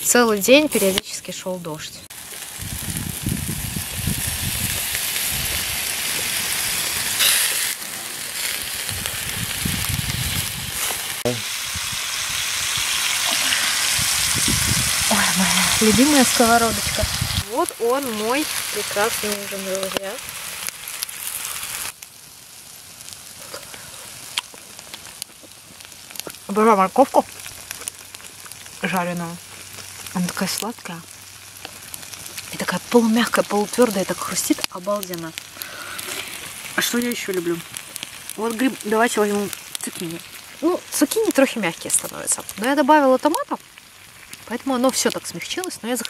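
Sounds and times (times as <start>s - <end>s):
vegetables sizzling in a pan: 0.0s - 46.0s.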